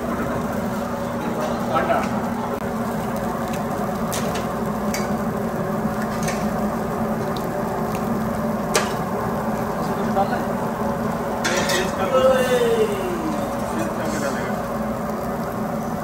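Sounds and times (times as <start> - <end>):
food sizzling on griddle: 0.0 - 16.0
steady low hum: 0.0 - 16.0.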